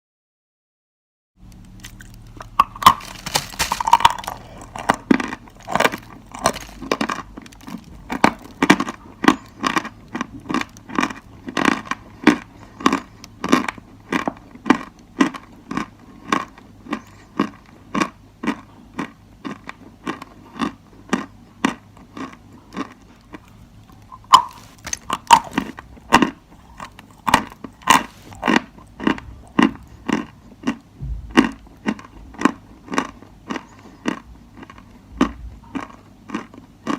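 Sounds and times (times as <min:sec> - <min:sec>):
chalk being chewed: 0:01.6 - 0:36.9.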